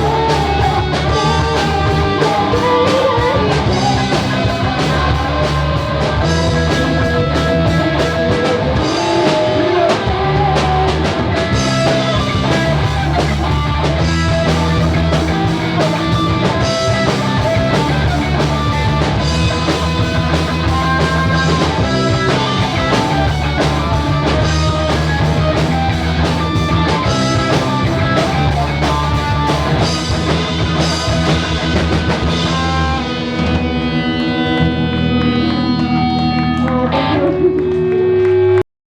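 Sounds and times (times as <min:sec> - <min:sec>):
rock band playing: 0:00.0 - 0:38.6
sustained guitar notes: 0:00.0 - 0:38.6.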